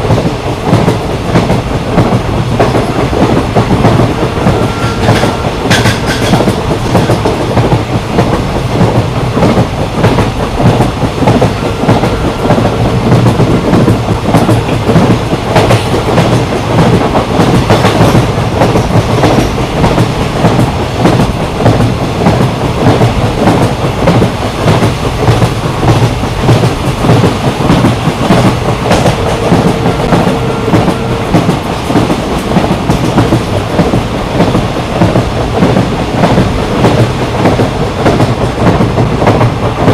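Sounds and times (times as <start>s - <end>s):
clickety-clack of rail joints: 0.0s - 39.9s
train wheels rumbling on rails: 0.0s - 39.9s.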